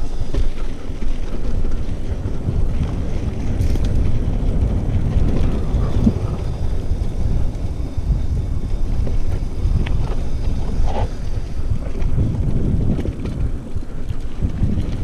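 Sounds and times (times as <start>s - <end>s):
bike rattles: 0.0s - 15.0s
bike tyres rumbling on dirt: 0.0s - 15.0s
wind buffeting microphone: 0.0s - 15.0s.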